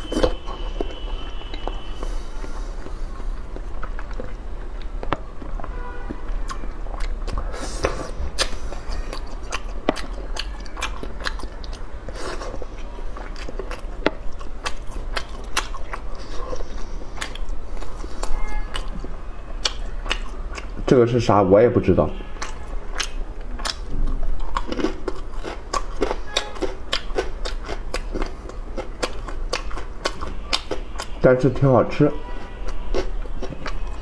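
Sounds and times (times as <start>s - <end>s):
person chewing crunchy food: 0.0s - 20.8s, 22.4s - 31.2s, 32.4s - 34.0s.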